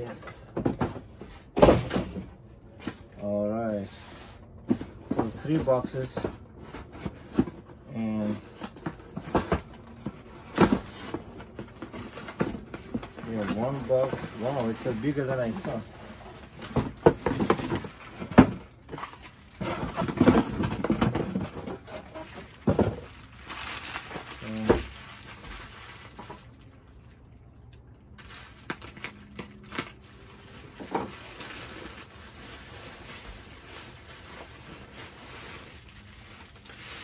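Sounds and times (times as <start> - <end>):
cardboard and bubble wrap rustling: 0.6 - 27.4, 28.0 - 37.0.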